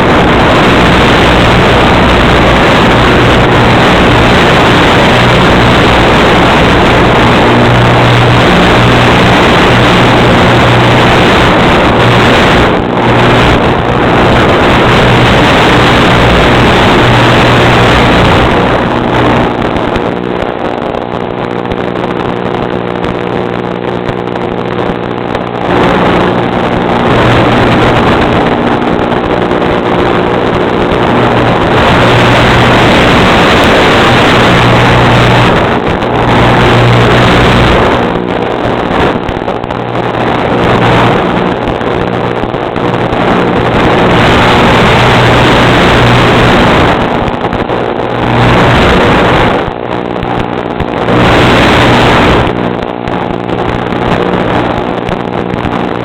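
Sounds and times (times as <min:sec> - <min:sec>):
motor humming: 0:00.0 - 0:56.0
wind on microphone: 0:00.0 - 0:56.0.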